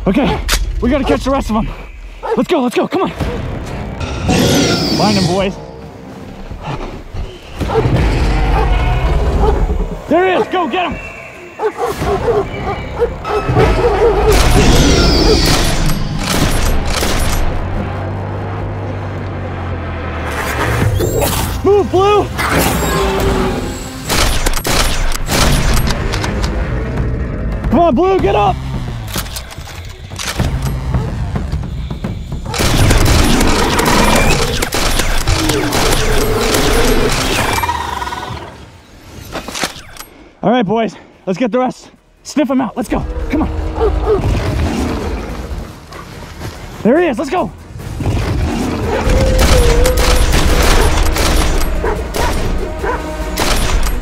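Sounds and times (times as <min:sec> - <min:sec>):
action soundtrack music: 0:00.0 - 0:40.7, 0:41.3 - 0:54.0.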